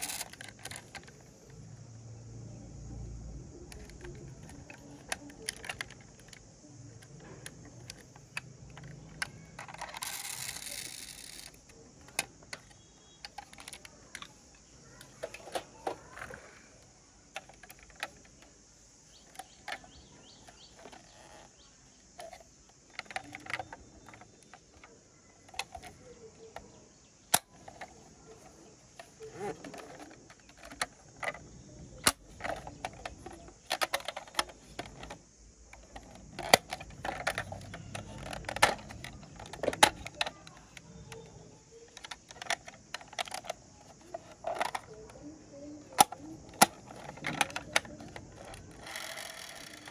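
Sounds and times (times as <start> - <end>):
plastic and metal parts knocking: 0.0 - 1.5, 3.5 - 16.6, 17.2 - 49.9
toy doors opening and shutting: 0.0 - 49.9.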